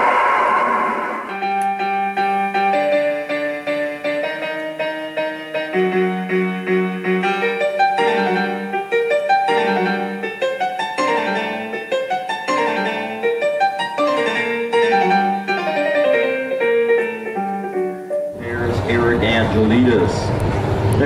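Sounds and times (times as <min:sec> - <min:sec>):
piano-like background music: 0:01.3 - 0:20.6.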